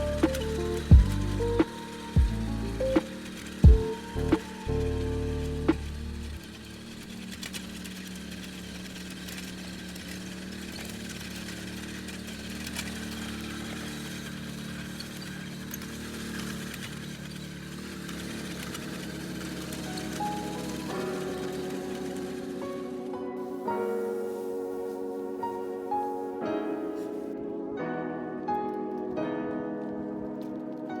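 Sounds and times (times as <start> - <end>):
small engine running: 0.0 - 27.3.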